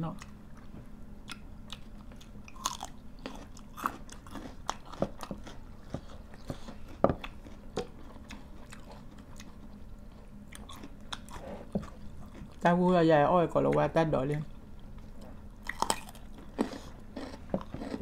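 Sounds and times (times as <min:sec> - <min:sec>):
people chewing food: 0:00.1 - 0:12.7, 0:13.7 - 0:18.0.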